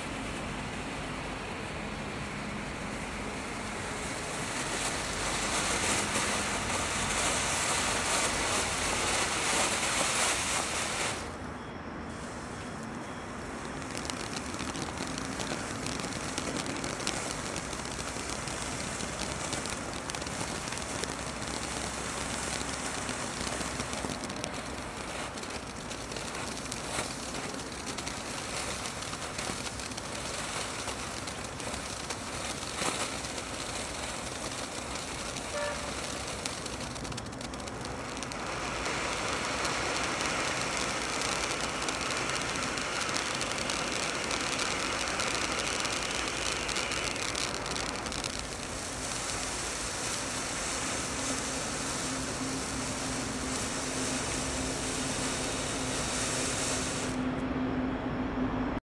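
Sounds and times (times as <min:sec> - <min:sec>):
firework cracks and pops: 0:00.0 - 0:11.5, 0:12.2 - 0:57.2
firework sparks hissing: 0:00.0 - 0:57.3.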